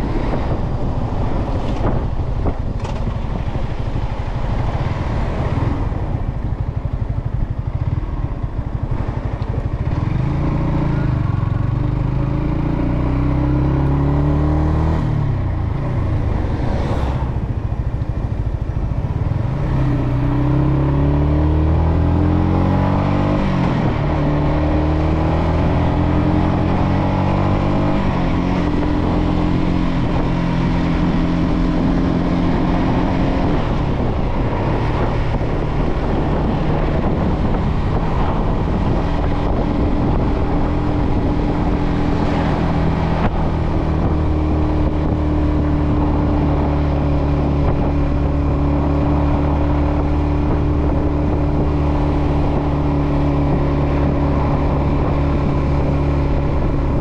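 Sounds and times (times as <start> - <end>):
motorcycle engine shifting gears: 0.0 - 57.0
wind noise on microphone: 0.0 - 57.0.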